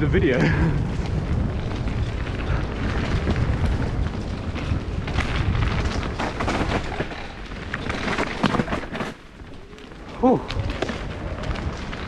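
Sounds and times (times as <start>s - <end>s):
bike clattering over bumps: 0.0s - 12.0s
bike tyres on dirt: 0.0s - 12.0s
wind buffeting microphone: 0.0s - 12.0s.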